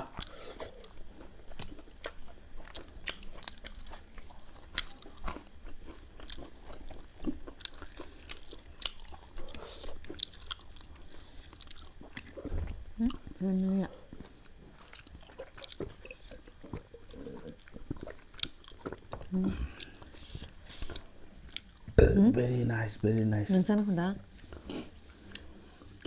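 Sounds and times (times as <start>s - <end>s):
chewing and biting food: 0.0s - 21.9s.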